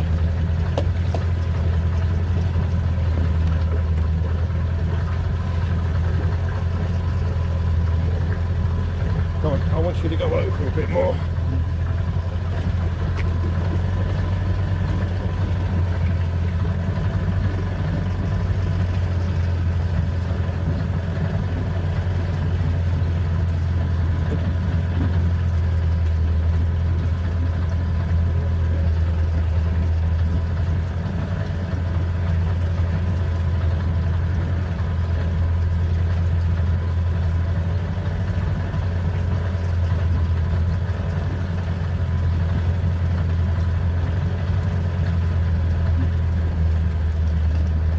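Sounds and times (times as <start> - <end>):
boat engine idling: 0.0 - 47.9.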